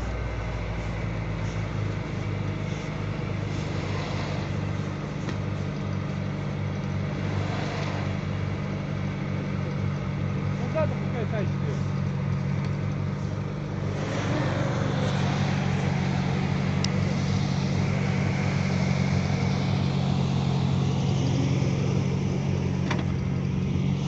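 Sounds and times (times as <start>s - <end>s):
vehicle engines humming: 0.0s - 24.0s.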